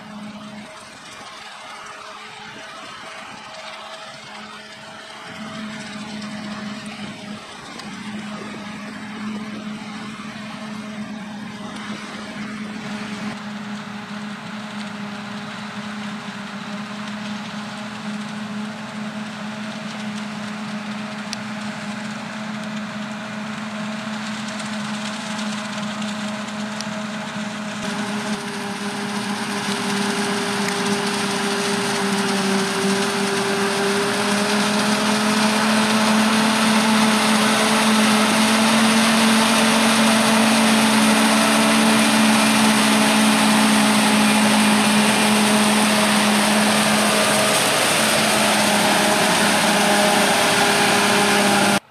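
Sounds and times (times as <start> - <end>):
forage harvester engine droning: 0.0 - 51.9
tractor running: 0.0 - 51.9.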